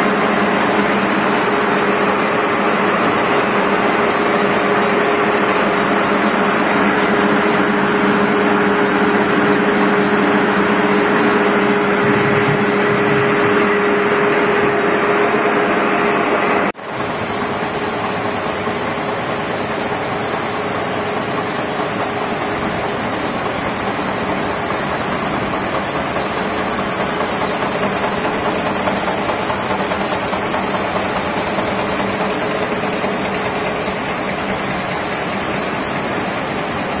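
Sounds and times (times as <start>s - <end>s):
grinding machine churning steel balls: 0.0s - 16.2s, 16.8s - 37.0s
constant machine hum: 0.0s - 37.0s
factory presses running: 0.0s - 37.0s.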